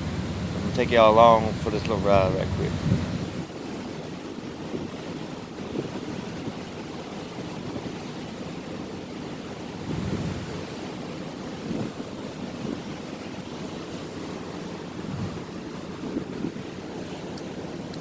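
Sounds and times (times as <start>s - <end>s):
wind and water rushing: 0.0s - 18.0s
wind buffeting microphone: 0.0s - 18.0s.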